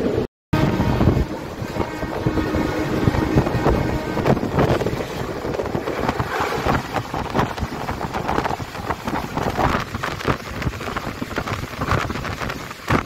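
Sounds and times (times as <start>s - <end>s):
train wheels rumbling on rails: 0.0s - 13.0s
wind on microphone: 0.0s - 13.0s.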